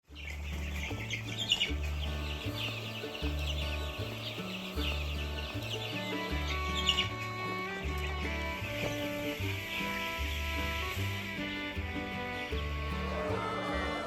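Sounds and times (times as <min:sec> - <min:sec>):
background music with bass line: 0:00.0 - 0:14.0
hens clucking: 0:00.1 - 0:14.0.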